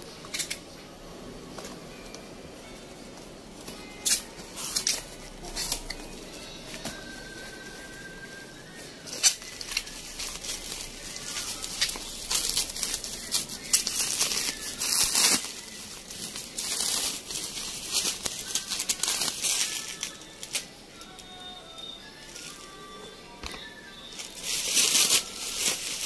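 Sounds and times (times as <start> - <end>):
bubble wrap crinkling: 1.5 - 26.0.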